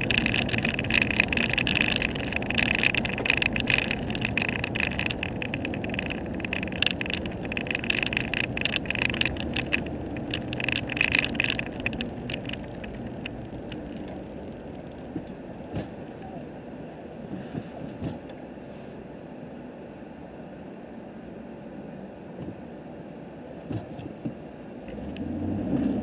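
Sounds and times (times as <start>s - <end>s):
crackling hiss: 0.0s - 20.8s
vehicle engine and road noise: 0.0s - 26.0s.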